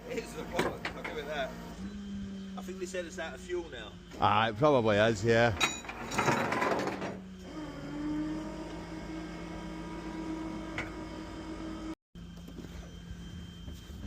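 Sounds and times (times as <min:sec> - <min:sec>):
hydraulic pump whining: 0:00.0 - 0:14.0.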